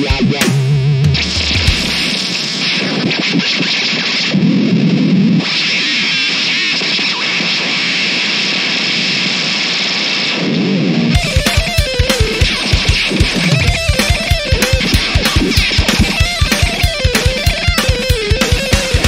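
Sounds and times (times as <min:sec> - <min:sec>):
distorted electric guitar rock music: 0:00.0 - 0:19.0.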